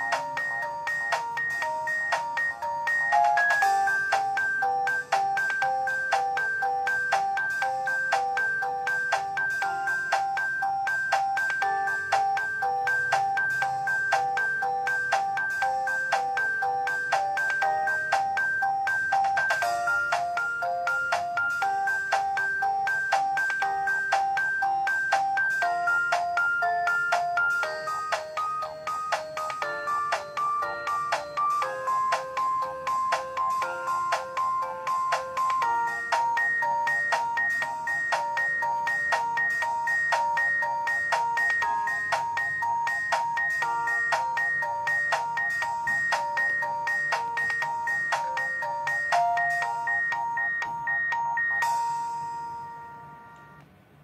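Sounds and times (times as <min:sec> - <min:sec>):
synthesized phone ringtone melody: 0:00.0 - 0:53.6.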